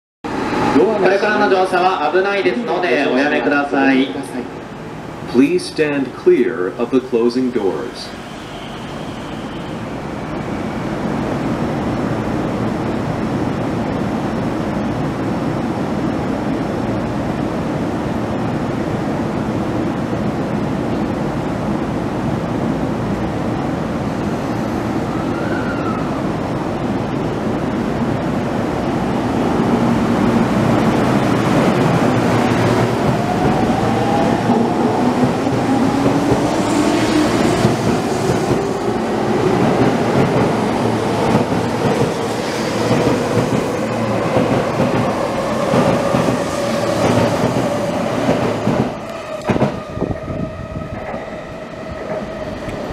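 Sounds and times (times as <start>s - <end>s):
train running noise: 6.8s - 17.2s, 18.4s - 52.9s.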